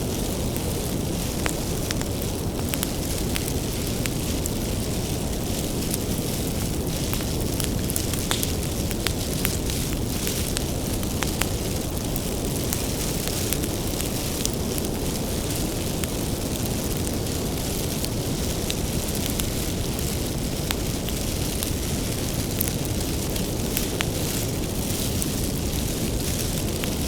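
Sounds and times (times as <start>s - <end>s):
firewood crackling and popping: 0.0s - 27.0s
wood fire rushing: 0.0s - 27.0s.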